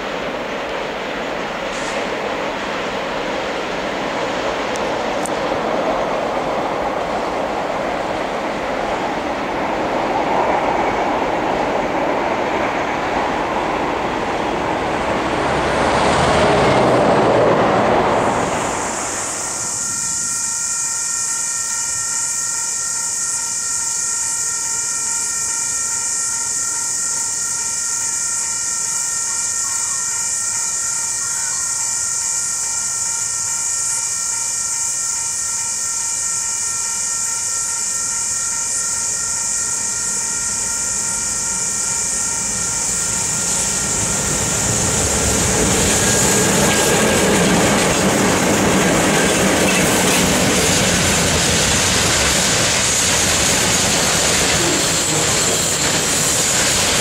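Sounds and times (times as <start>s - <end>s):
steady high hiss: 0.0s - 16.2s, 17.1s - 57.0s
freight train wagons rumbling: 0.0s - 57.0s.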